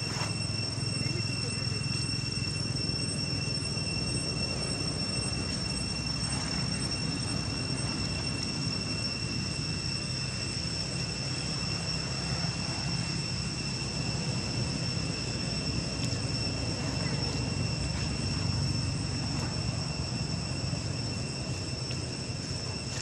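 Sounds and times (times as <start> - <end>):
high-pitched whine: 0.0 - 23.0.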